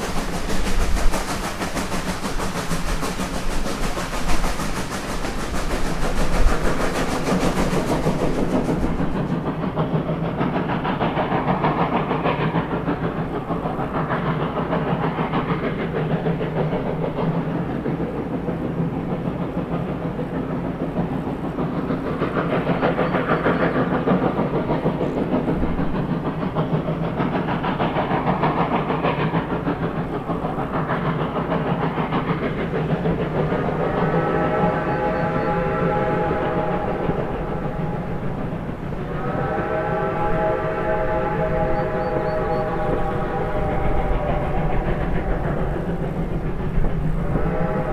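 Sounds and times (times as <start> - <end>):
steam locomotive exhaust chuffs: 0.0 - 47.9.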